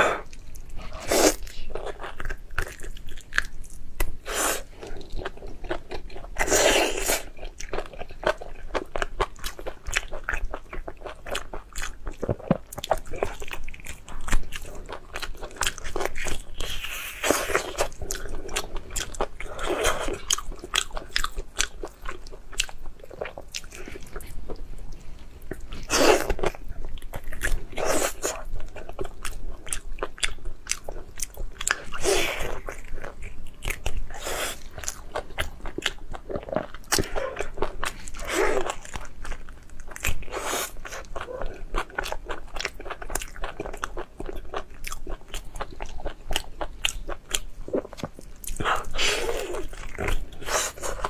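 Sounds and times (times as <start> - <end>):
person chewing crunchy food: 0.0 - 51.0.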